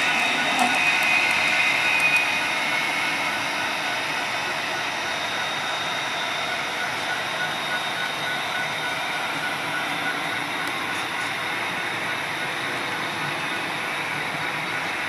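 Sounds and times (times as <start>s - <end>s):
model train wheels rolling: 0.0s - 15.0s.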